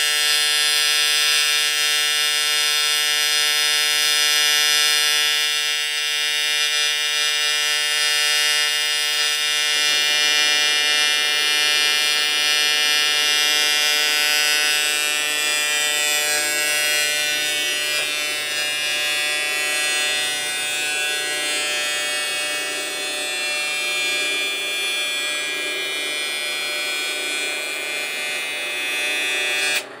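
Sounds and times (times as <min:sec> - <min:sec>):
welding arc buzzing: 0:00.0 - 0:30.0.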